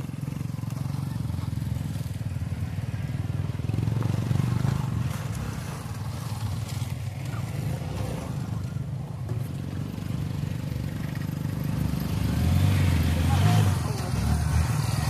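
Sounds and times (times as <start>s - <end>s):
motorcycle engines passing: 0.0s - 15.0s.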